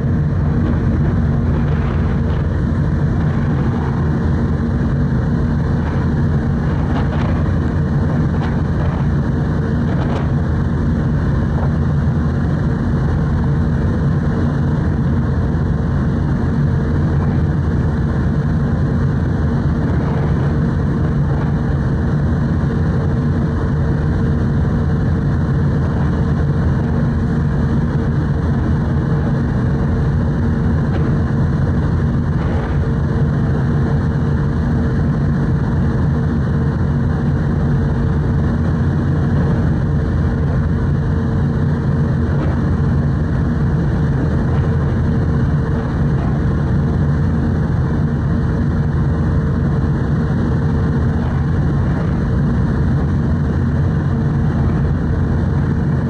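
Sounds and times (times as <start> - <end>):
ship engines humming: 0.0 - 56.0.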